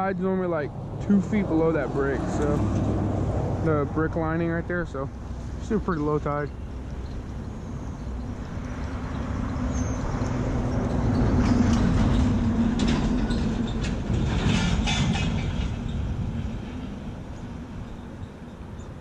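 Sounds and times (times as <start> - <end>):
vehicle passing by: 0.0 - 17.9.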